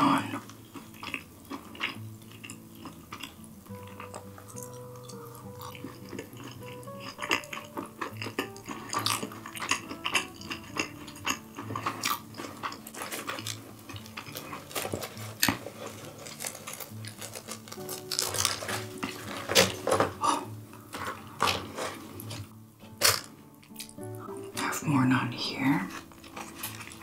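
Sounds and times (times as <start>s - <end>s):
light background music: 0.0s - 27.0s.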